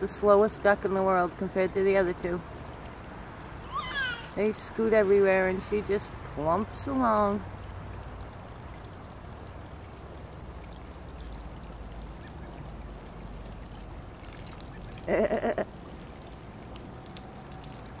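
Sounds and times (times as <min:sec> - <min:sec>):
sprinkler water spraying: 0:00.0 - 0:18.0.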